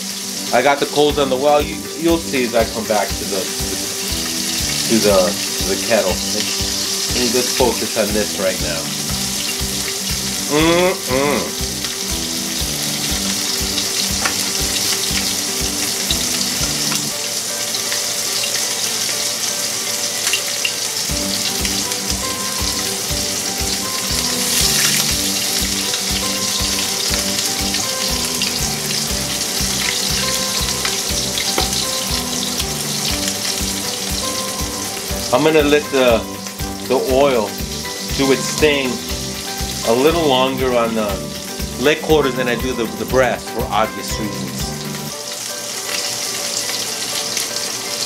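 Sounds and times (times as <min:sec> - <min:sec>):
chicken frying in oil: 0:00.0 - 0:48.0
quiet background music: 0:00.0 - 0:48.0.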